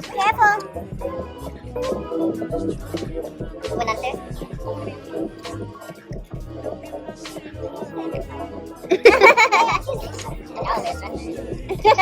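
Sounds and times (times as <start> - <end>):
hip hop music with deep bass: 0.0 - 12.0.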